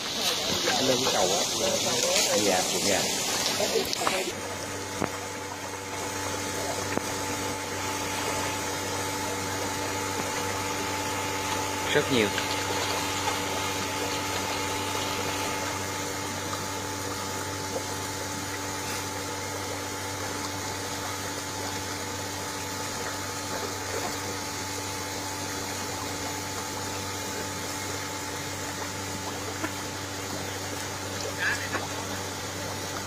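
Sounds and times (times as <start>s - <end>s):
running water: 0.0s - 33.0s
water pump humming: 0.0s - 33.0s.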